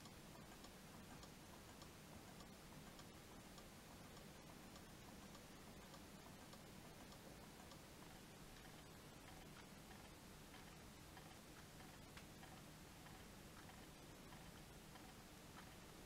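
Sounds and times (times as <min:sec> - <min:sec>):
faint clock ticking: 0:00.0 - 0:16.0
low steady hum: 0:00.0 - 0:16.0.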